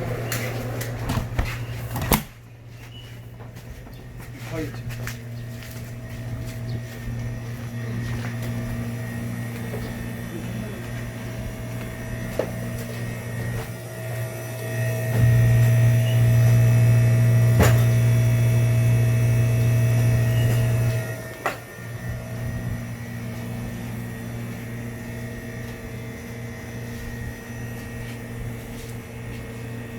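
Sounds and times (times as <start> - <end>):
low machine hum with tones: 0.0 - 29.9
faint high whine: 4.5 - 29.9.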